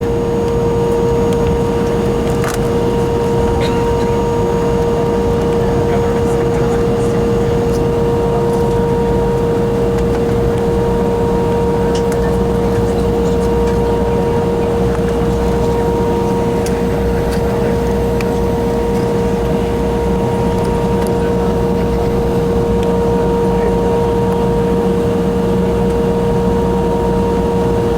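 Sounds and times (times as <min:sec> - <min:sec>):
jet engines idling: 0:00.0 - 0:27.9.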